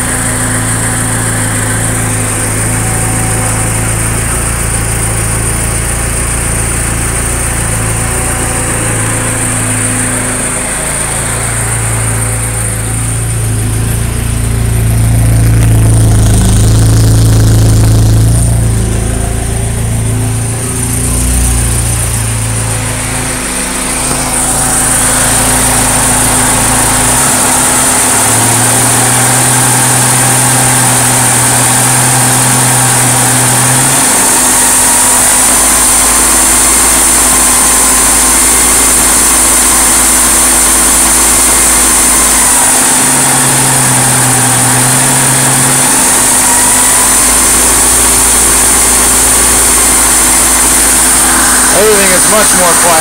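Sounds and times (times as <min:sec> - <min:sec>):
car engine idling: 0:00.0 - 0:53.0
electric cooling fans running: 0:01.2 - 0:53.0.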